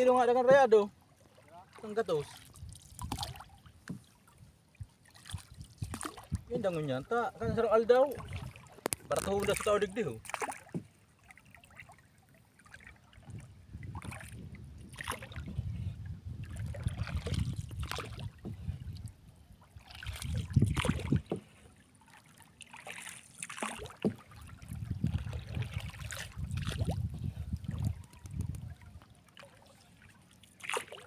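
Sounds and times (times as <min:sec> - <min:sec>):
water sloshing around a boat: 0:00.0 - 0:31.0.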